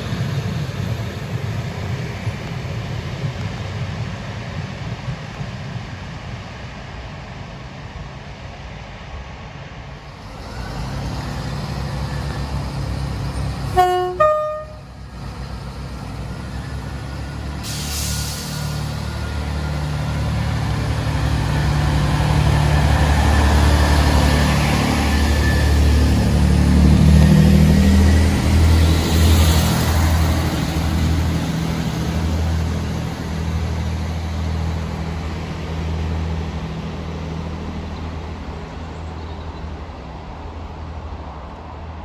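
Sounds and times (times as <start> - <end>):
diesel train engine throbbing: 0.0 - 42.0.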